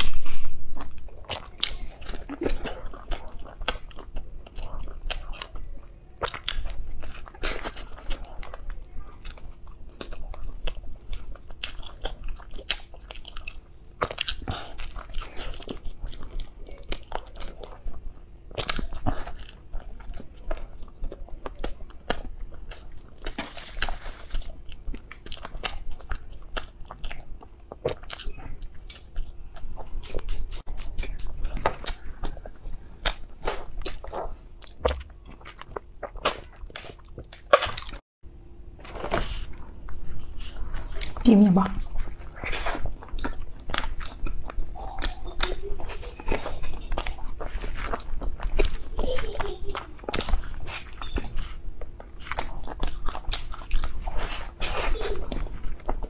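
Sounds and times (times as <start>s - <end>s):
chewing soft bread: 0.0s - 56.0s.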